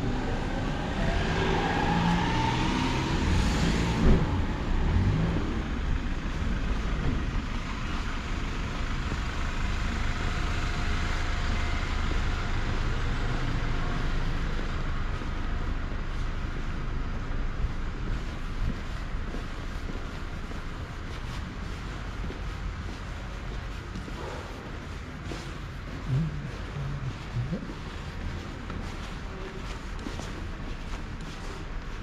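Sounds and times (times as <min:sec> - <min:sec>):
vehicle engine passing: 0:00.0 - 0:18.4, 0:19.1 - 0:31.6
traffic rumble: 0:00.0 - 0:32.0.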